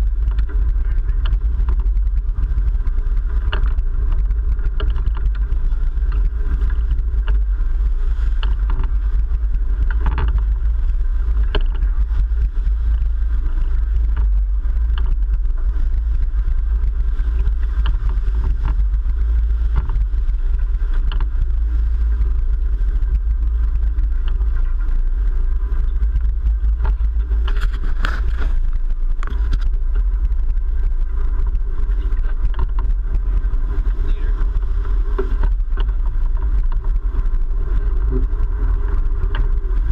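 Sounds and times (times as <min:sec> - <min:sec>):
boat engines rumbling: 0:00.0 - 0:39.9
water churning: 0:00.0 - 0:39.9.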